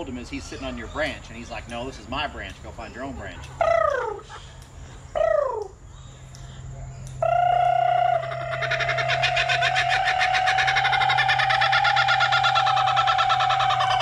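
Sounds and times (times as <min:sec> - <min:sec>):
caged bird calling and chattering: 0:00.0 - 0:14.0.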